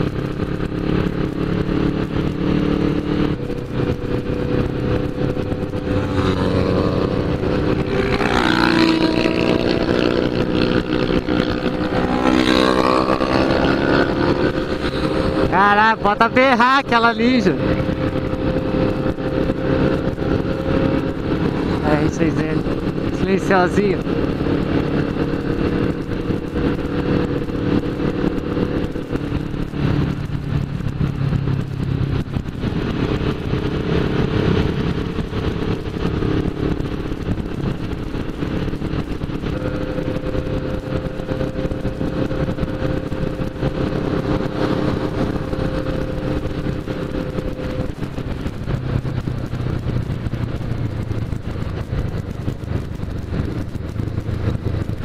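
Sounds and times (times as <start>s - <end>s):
motorcycle engine cruising: 0.0s - 55.0s
wind noise on microphone: 0.0s - 55.0s.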